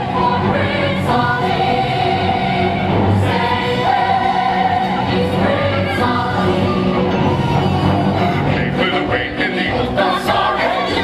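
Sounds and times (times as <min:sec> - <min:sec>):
chorus singing held notes: 0:00.0 - 0:07.4, 0:08.2 - 0:11.0
orchestral accompaniment: 0:00.0 - 0:11.0.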